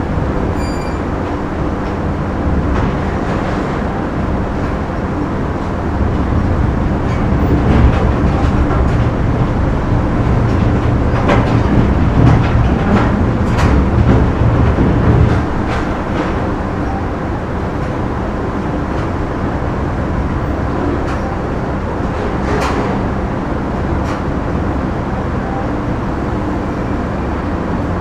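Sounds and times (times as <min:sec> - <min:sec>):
machinery rumble and hum: 0:00.0 - 0:28.0.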